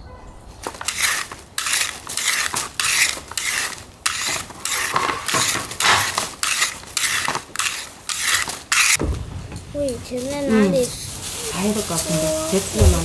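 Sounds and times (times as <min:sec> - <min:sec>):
salt scraping on cabbage leaves: 0:00.6 - 0:09.0, 0:10.0 - 0:13.0.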